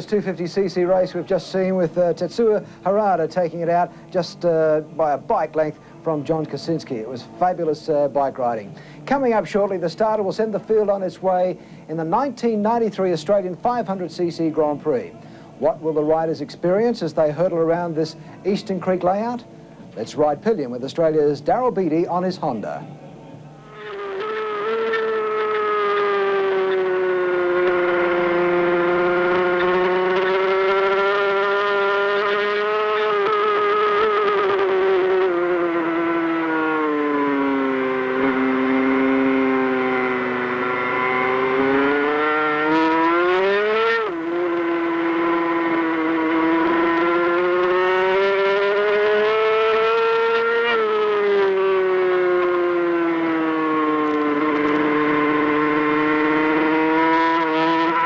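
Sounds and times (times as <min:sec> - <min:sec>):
racing motorcycle engine: 0:00.0 - 0:22.9, 0:23.5 - 0:58.0.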